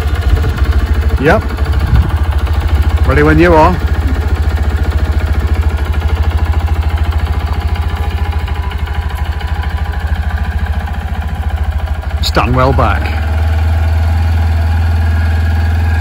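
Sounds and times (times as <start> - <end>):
mini motorcycle engine idling: 0.0 - 16.0.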